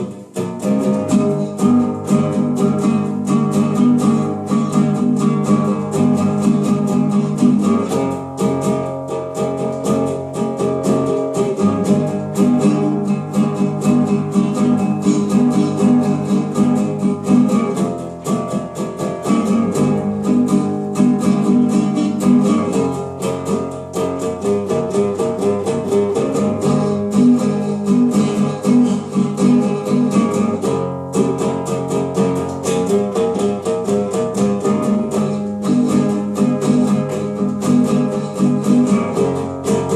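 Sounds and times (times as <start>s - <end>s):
small acoustic guitar: 0.0s - 39.9s.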